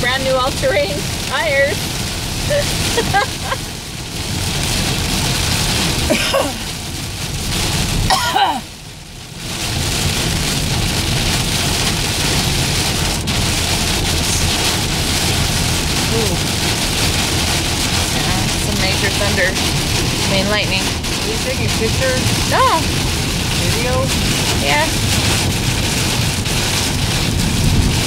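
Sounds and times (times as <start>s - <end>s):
heavy rain on car roof: 0.0s - 28.0s.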